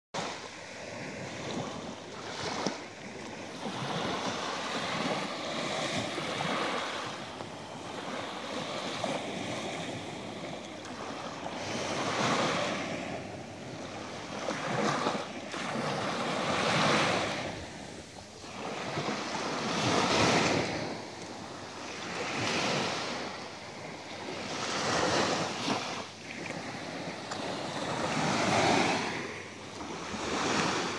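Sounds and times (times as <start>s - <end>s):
waves breaking on sand beach: 0.2s - 30.9s.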